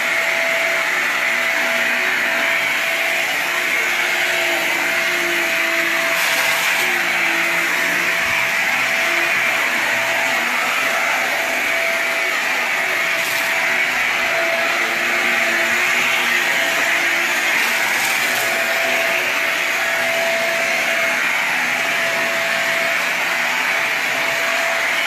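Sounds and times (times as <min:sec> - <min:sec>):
vacuum cleaner running on carpet: 0:00.0 - 0:25.0.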